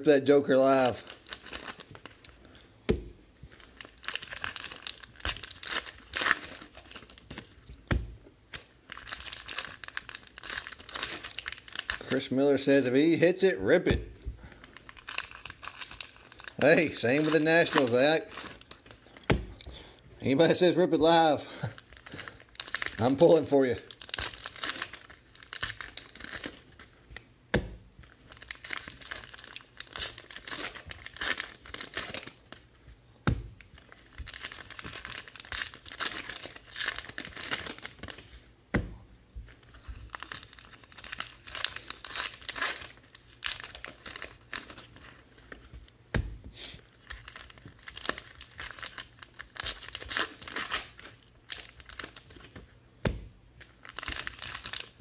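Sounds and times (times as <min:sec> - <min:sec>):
card pack wrappers crinkling: 0:00.5 - 0:02.4, 0:03.5 - 0:07.6, 0:08.5 - 0:12.8, 0:14.5 - 0:19.8, 0:20.4 - 0:27.0, 0:28.0 - 0:32.8, 0:33.6 - 0:38.5, 0:39.5 - 0:45.8, 0:46.6 - 0:52.6, 0:53.6 - 0:55.0.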